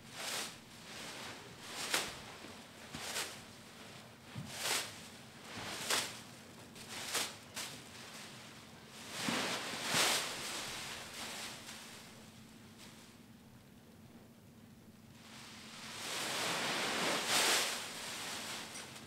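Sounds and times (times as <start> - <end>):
plastic bags rustling and crinkling: 0.1 - 13.0, 15.2 - 19.0.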